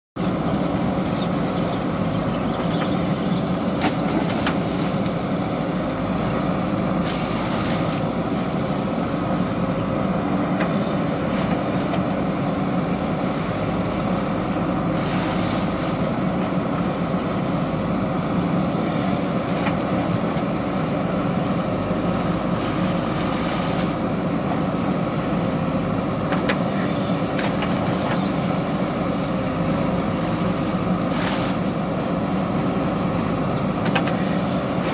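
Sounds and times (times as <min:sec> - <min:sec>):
backhoe digging wet soil: 0:00.2 - 0:34.9
diesel engine running: 0:00.2 - 0:34.9.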